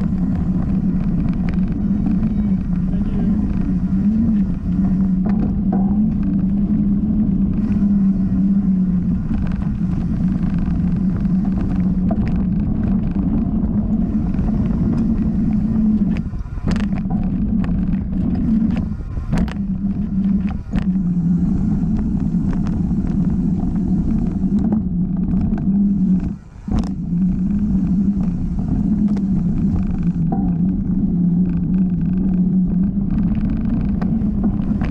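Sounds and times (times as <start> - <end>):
bike tyre rumble: 0.0 - 34.9
wind rush over microphone: 0.0 - 34.9.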